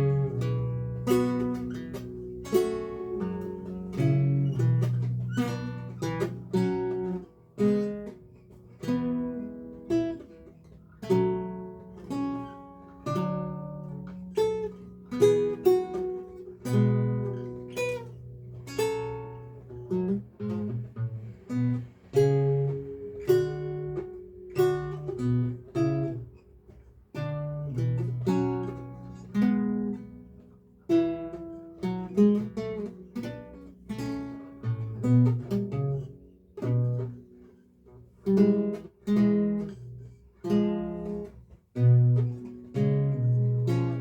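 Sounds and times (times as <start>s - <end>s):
solo lute playing: 0.0s - 44.0s.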